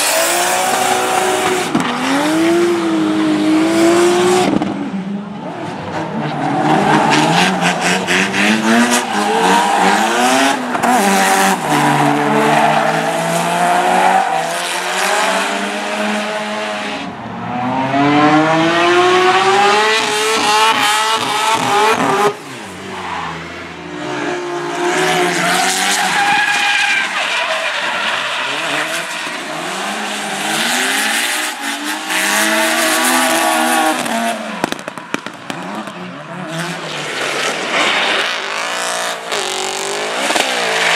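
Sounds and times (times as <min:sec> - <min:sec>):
car engines revving hard: 0:00.0 - 0:27.2, 0:27.8 - 0:40.9.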